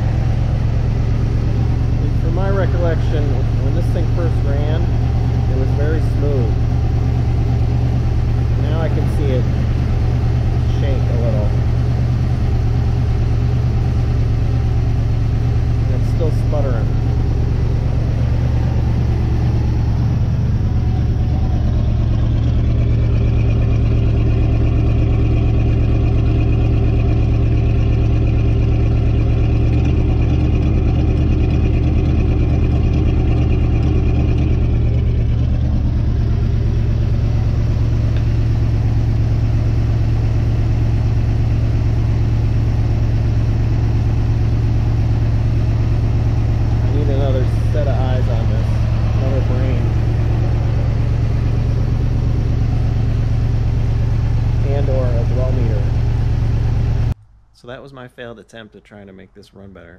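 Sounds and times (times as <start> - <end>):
car engine misfiring: 0.0 - 57.5
higher tone: 0.0 - 57.9.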